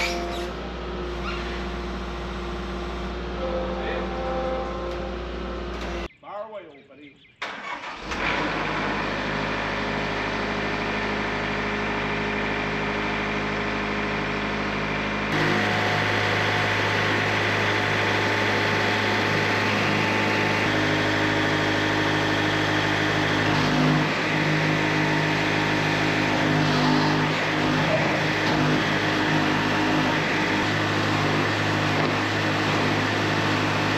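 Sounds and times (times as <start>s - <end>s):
sawmill engine running: 0.0s - 6.1s, 7.5s - 33.9s.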